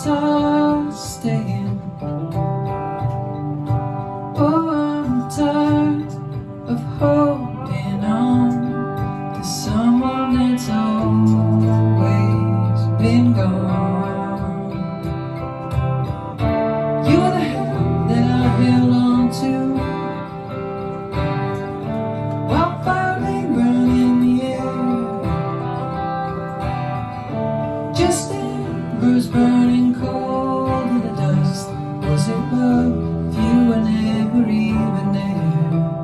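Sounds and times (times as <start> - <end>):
lead guitar bending notes: 0.0 - 36.0
strummed guitar chords: 0.0 - 36.0.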